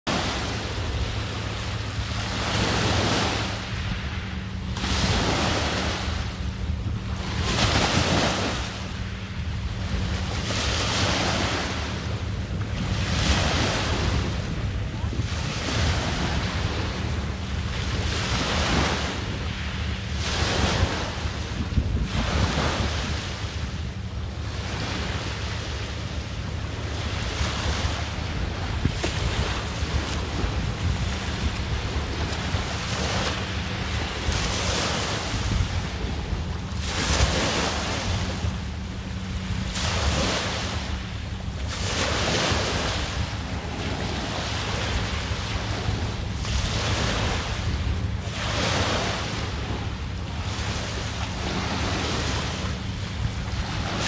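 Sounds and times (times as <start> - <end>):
waves breaking on pebbly beach: 0.1 - 9.1, 9.7 - 23.7, 24.4 - 54.0
wind buffeting microphone: 0.1 - 54.0.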